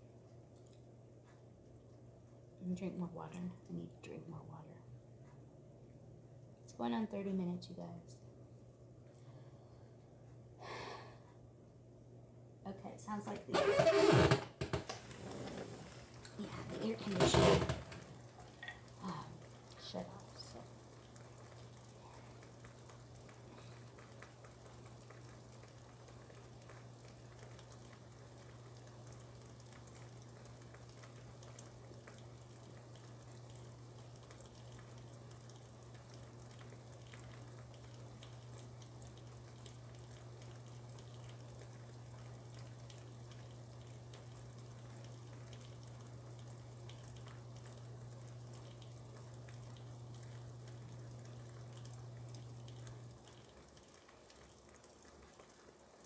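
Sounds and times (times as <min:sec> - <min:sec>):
rain hiss with drop ticks: 0:00.0 - 0:11.5, 0:12.7 - 0:56.0
low steady hum: 0:00.0 - 0:56.0.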